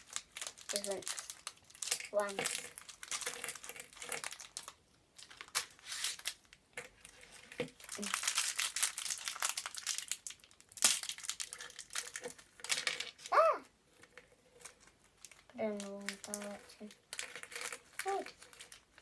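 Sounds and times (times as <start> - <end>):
plastic packet crinkling: 0.0 - 13.3, 14.1 - 19.0.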